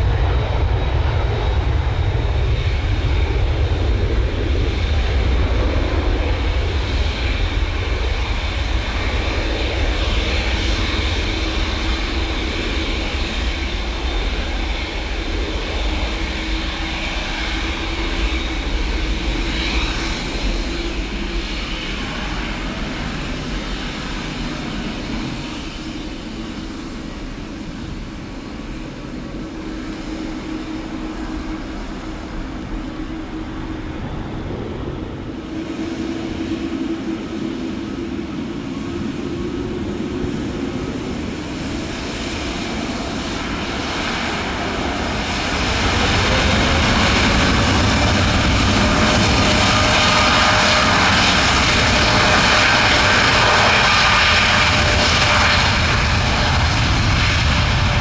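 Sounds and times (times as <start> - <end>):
jet engines whining and spooling up: 0.0 - 58.0.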